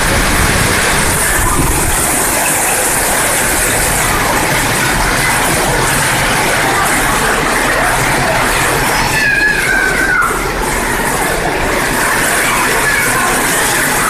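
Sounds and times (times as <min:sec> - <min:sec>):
heavy rain on a metal roof: 0:00.0 - 0:14.0.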